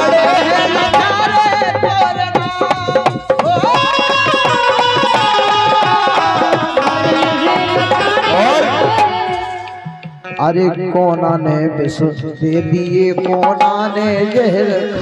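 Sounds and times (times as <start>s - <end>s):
hand-drum beats: 0.0s - 15.0s
instrumental accompaniment: 0.0s - 15.0s
man singing long notes: 0.0s - 15.0s.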